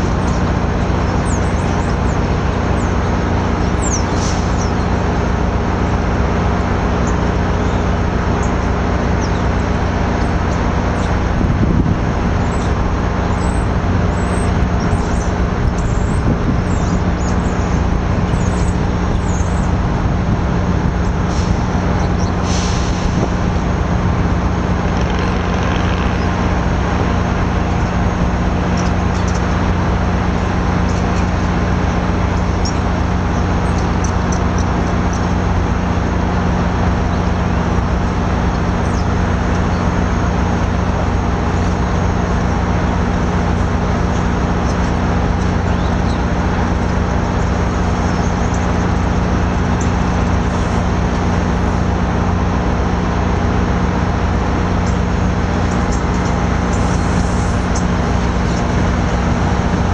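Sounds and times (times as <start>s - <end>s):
diesel locomotive idling: 0.0s - 59.9s.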